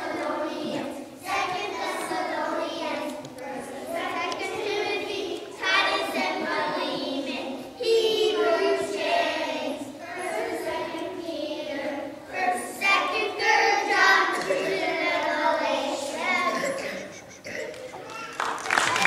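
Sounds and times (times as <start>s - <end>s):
children's choir singing: 0.0s - 17.3s.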